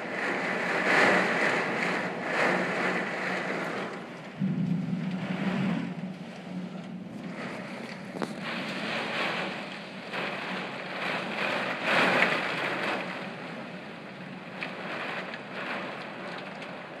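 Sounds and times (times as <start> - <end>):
gusting wind: 0.0 - 17.0
heavy rain against window glass: 0.0 - 17.0.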